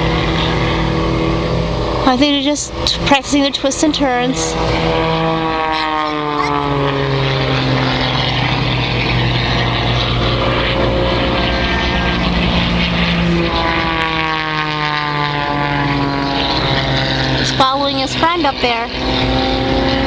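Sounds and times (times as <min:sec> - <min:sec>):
propeller plane engines droning: 0:00.0 - 0:20.0.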